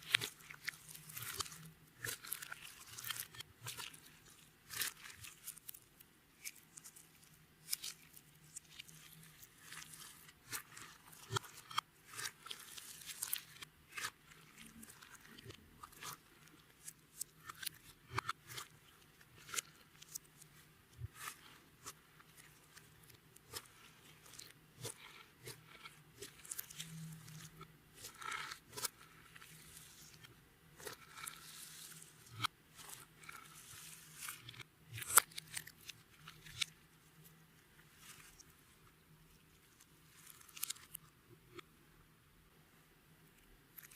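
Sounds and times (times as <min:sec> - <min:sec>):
hands squishing sticky slime: 0:00.0 - 0:36.6.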